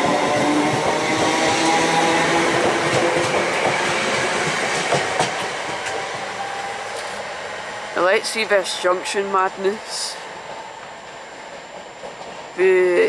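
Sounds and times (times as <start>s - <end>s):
electric train motor hum: 0.0s - 13.0s.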